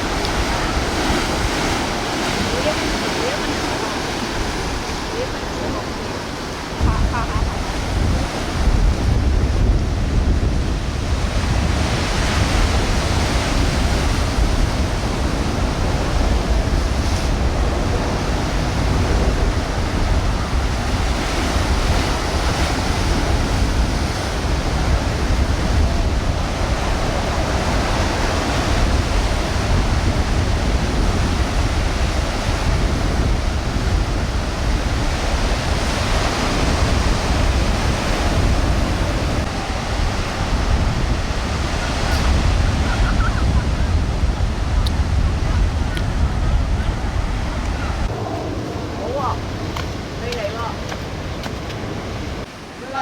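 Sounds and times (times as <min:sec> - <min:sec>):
ocean surf breaking: 0:00.0 - 0:53.0
wind rumbling on microphone: 0:00.0 - 0:53.0.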